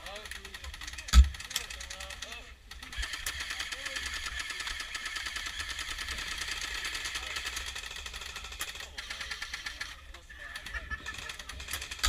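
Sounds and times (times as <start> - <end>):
airsoft guns firing full auto: 0.0 - 10.2, 10.9 - 12.0.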